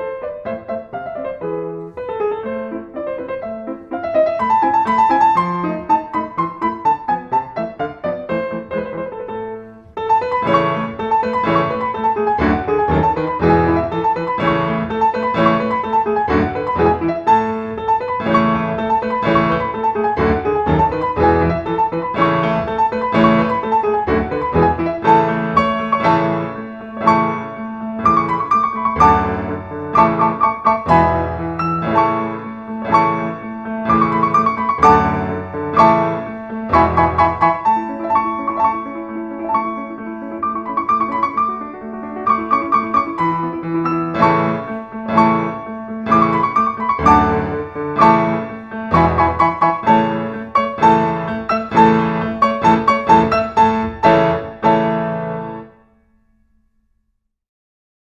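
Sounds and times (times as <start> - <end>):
piano music: 0.0 - 56.9.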